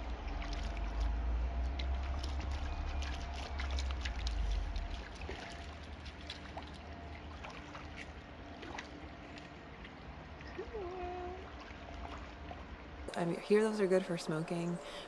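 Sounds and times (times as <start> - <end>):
creek water trickling over stones: 0.0 - 15.0.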